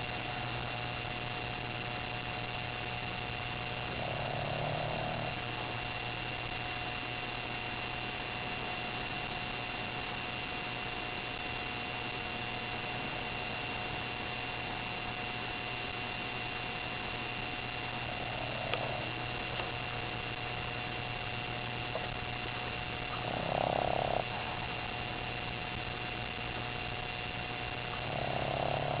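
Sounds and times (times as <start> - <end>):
puppy snoring: 0.0 - 9.2, 12.2 - 29.0
electrical hum and hiss: 0.0 - 29.0.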